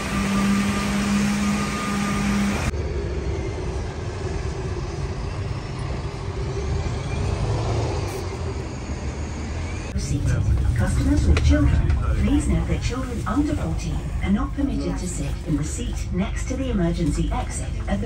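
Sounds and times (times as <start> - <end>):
bus engine hum: 0.0 - 18.0
low road traffic rumble: 0.0 - 18.0.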